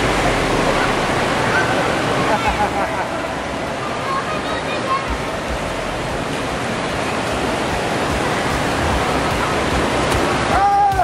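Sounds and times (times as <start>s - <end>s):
rushing water in indoor pool: 0.0s - 11.0s.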